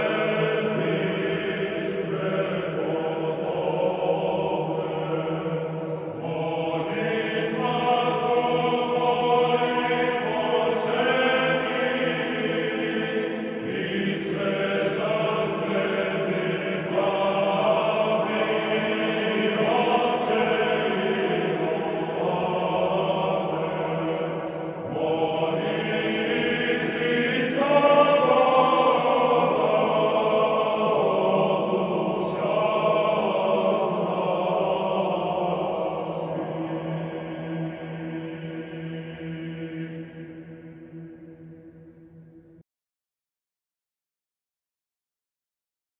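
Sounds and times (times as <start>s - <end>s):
choir chanting: 0.0s - 42.2s.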